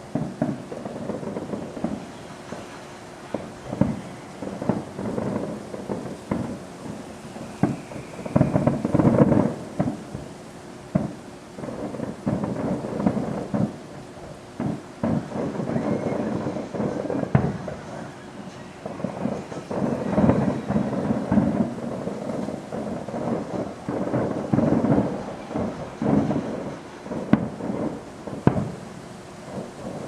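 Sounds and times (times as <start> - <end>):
distant fireworks popping: 0.0 - 30.0.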